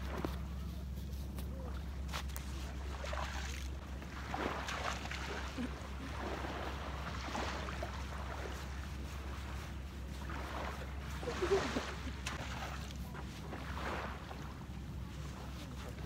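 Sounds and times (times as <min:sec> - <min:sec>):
waves washing on shore: 0:02.0 - 0:16.0.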